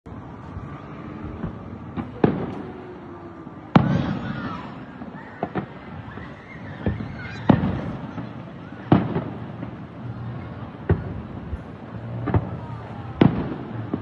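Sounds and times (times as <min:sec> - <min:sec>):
fireworks bangs: 0:00.1 - 0:14.0
small firework pops: 0:01.4 - 0:03.1, 0:03.7 - 0:14.0.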